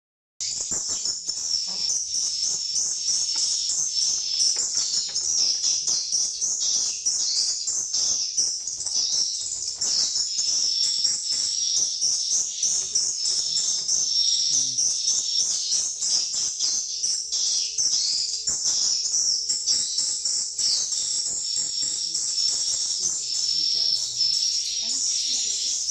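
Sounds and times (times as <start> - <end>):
swiftlets chirping: 0.4 - 25.9.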